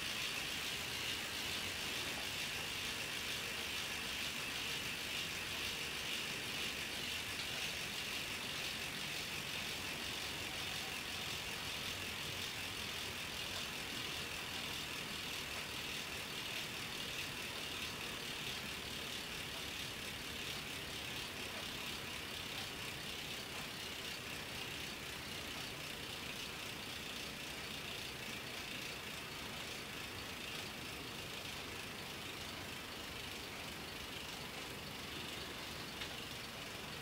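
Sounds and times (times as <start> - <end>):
bicycle freehub ticking buzz: 0.0 - 37.0.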